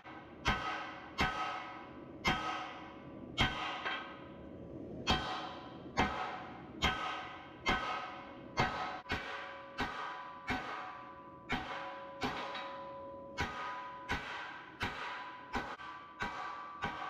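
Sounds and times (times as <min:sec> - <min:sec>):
hammer striking metal on anvil: 0:00.0 - 0:04.2, 0:05.0 - 0:17.0.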